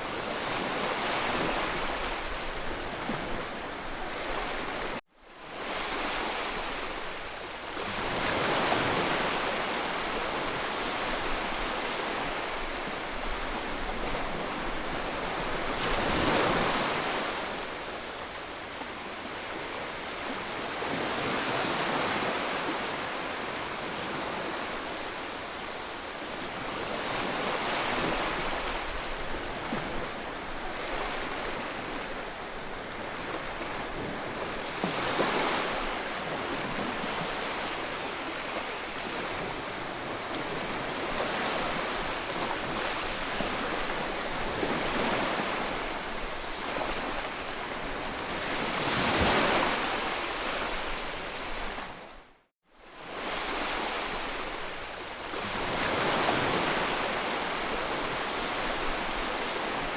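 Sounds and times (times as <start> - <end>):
ocean waves crashing: 0.0 - 52.2, 53.0 - 59.9.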